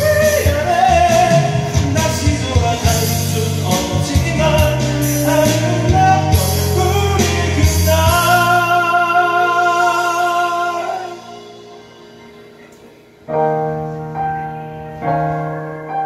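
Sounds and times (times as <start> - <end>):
person singing: 0.0 - 12.9
karaoke pop ballad accompaniment: 0.0 - 16.0.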